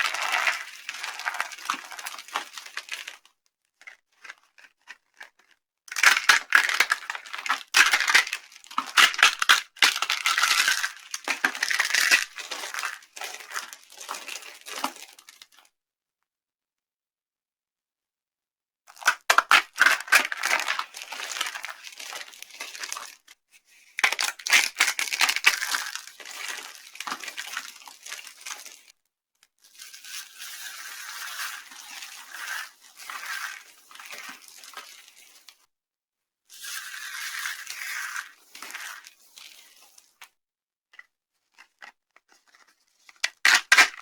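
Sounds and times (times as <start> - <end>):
dry soap crackling and crunching: 0.0 - 15.7, 18.9 - 35.7, 36.6 - 40.3, 41.0 - 44.0.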